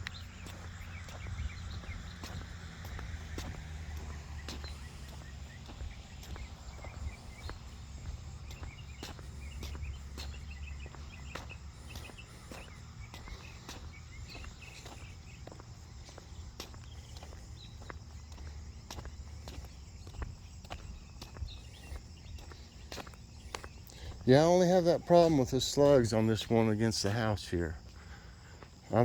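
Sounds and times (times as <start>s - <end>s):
steady low rumble: 0.0s - 24.3s
footsteps crunching in garden: 0.0s - 29.0s.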